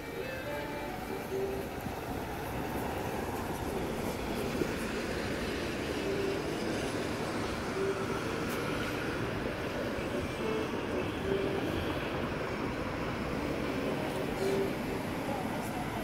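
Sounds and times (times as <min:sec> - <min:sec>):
bus driving past: 0:00.0 - 0:16.0
street traffic: 0:00.0 - 0:16.0.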